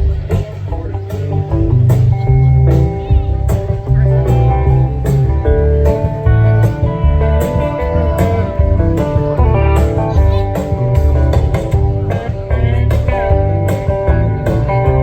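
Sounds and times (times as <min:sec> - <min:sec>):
acoustic string band playing: 0:00.0 - 0:15.0.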